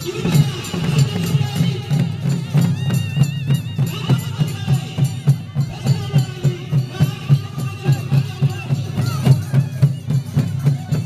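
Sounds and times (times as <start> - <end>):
folk music with drum beat: 0.0 - 11.0.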